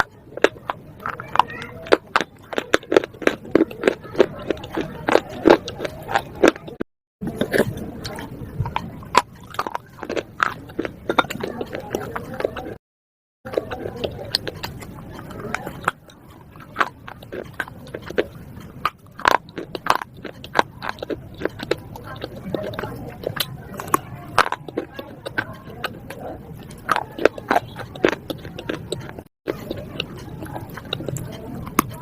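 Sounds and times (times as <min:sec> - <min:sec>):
slate being chewed: 0:00.0 - 0:12.8, 0:13.5 - 0:32.0.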